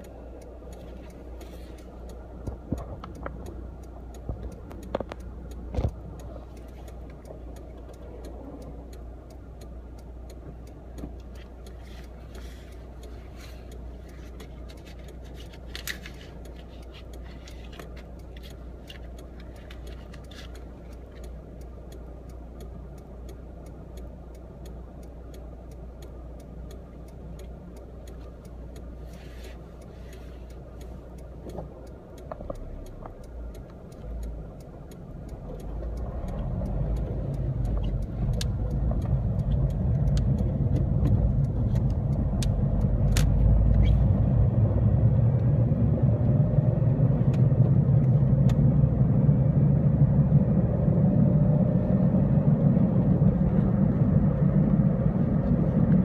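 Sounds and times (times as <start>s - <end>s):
car engine and road rumble: 0.0s - 56.0s
steady ticking: 0.0s - 56.0s.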